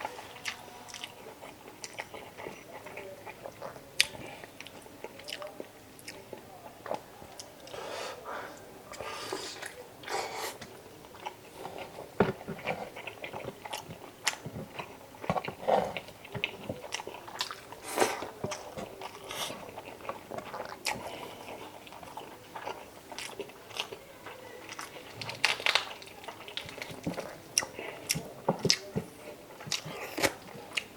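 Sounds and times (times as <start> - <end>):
person chewing and biting: 0.0 - 7.8, 9.0 - 30.9.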